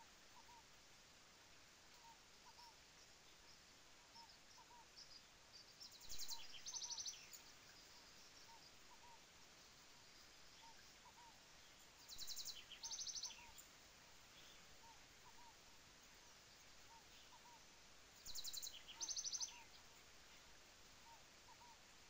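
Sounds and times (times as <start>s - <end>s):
falling water hiss: 0.0s - 22.0s.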